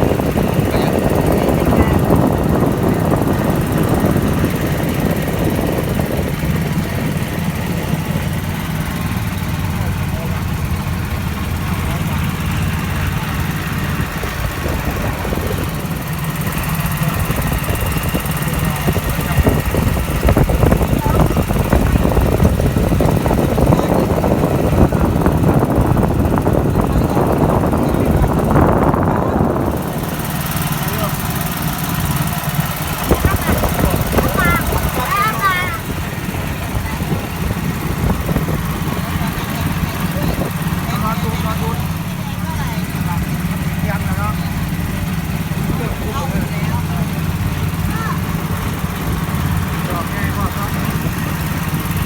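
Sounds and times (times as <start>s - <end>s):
boat motor running: 0.0s - 52.0s.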